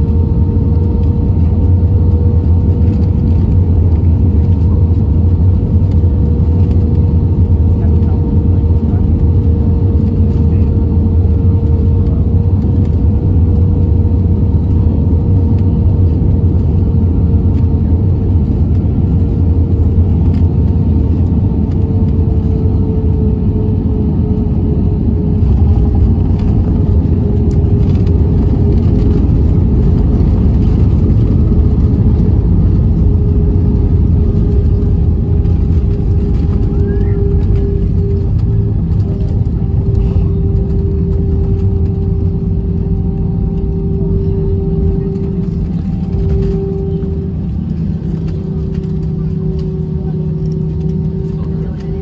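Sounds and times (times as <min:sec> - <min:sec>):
airplane cabin rumble: 0:00.0 - 0:52.0
jet engine whine: 0:00.0 - 0:52.0.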